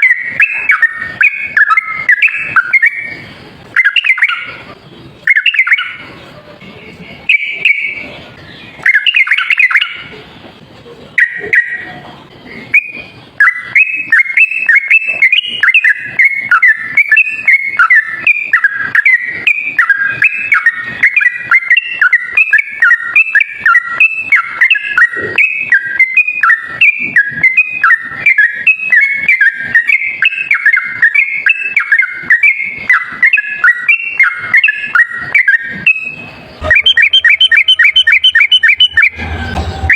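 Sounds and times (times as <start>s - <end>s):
bulbul singing whistled notes: 0.0s - 6.2s, 7.1s - 10.2s, 11.2s - 39.9s.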